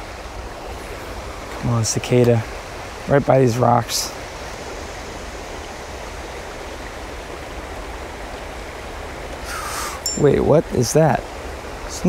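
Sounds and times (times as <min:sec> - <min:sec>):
creek water running over rocks: 0:00.0 - 0:12.0.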